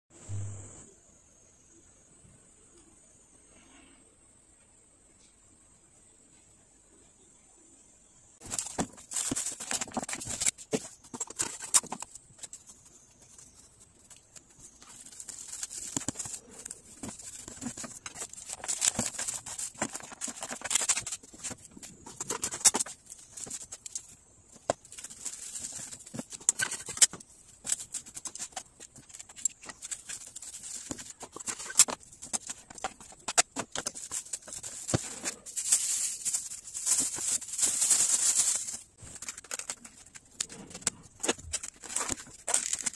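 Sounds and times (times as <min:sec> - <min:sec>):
cling film crinkling: 0:08.4 - 0:42.9.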